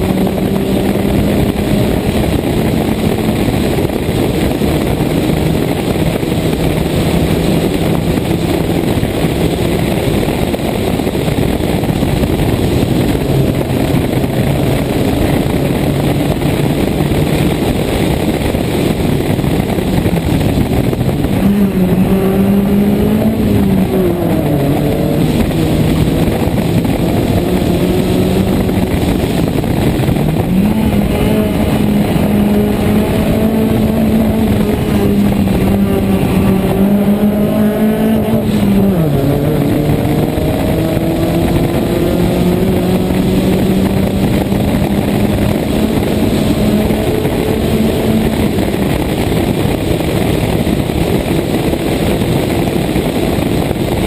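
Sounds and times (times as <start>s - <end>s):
rally car engine revving: 0.0s - 54.0s
rushing wind noise: 0.0s - 54.0s.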